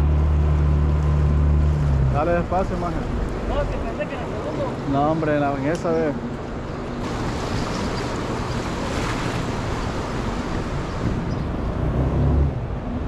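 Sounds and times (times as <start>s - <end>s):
water rushing past boat: 0.0s - 12.8s
wind buffeting microphone: 2.0s - 13.0s.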